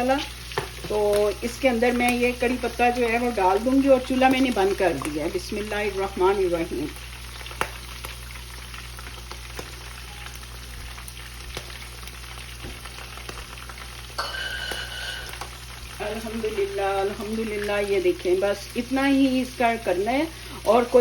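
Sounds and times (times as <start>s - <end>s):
sizzling and crackling in hot oil: 0.0s - 21.0s.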